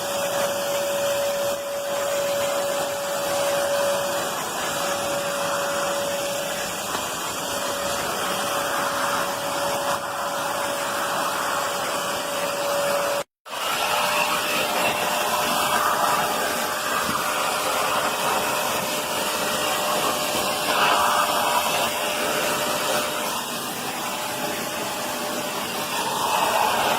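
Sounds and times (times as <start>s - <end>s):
vacuum cleaner whining: 0.0s - 26.9s.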